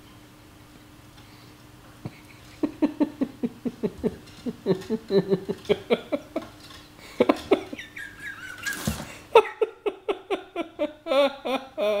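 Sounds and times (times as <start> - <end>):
person laughing hard: 2.1 - 12.0.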